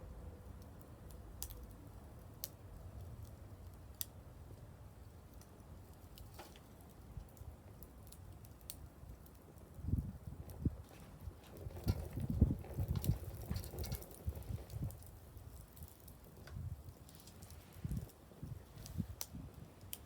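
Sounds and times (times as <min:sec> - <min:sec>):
wood fire snaps and pops: 0:00.4 - 0:20.0.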